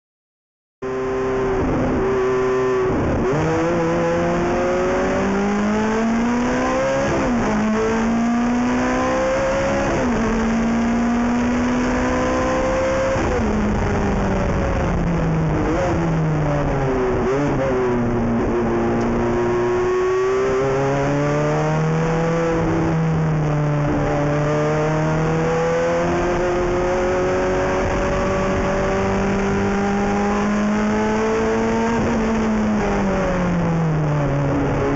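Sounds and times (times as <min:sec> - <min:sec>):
race car engine revving through gears: 0:00.8 - 0:34.9.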